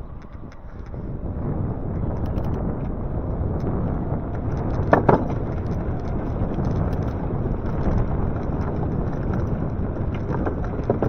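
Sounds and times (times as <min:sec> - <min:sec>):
road noise: 0:00.0 - 0:11.0
wind rumbling on microphone: 0:00.0 - 0:11.0.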